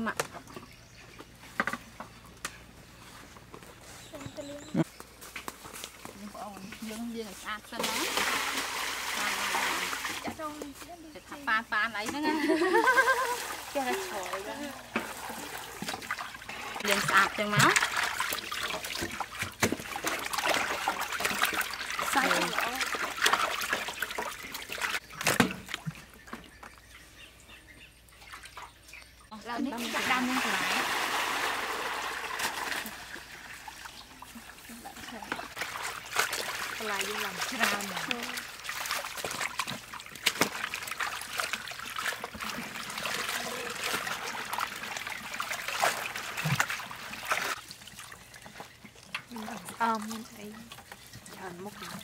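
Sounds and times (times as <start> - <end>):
water splashing in a metal basin: 6.8 - 26.8, 28.0 - 52.0.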